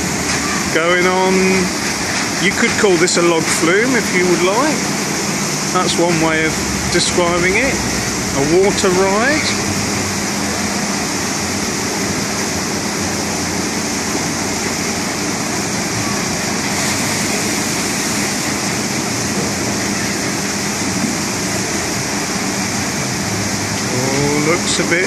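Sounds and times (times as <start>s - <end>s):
water rushing down a chute: 0.0s - 25.0s.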